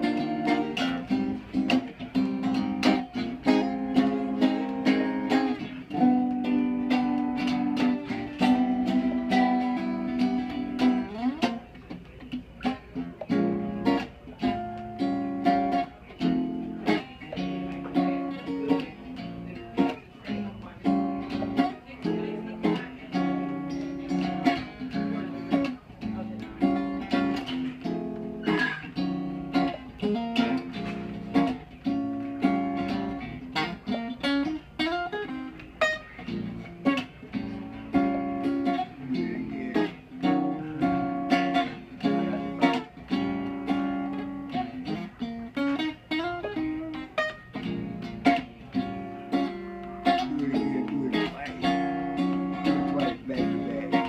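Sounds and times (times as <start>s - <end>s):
solo guitar playing: 0.0s - 54.0s.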